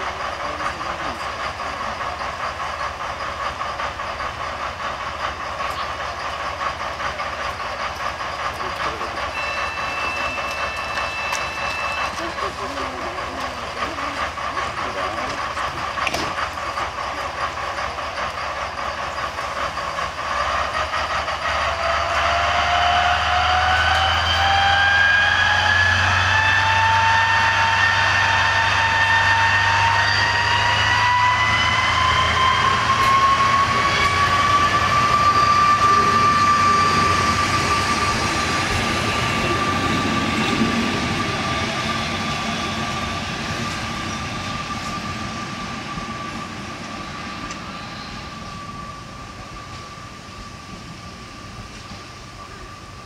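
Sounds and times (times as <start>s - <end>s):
diesel engine hum: 0.0s - 53.0s
train whine rising in pitch: 0.0s - 53.0s.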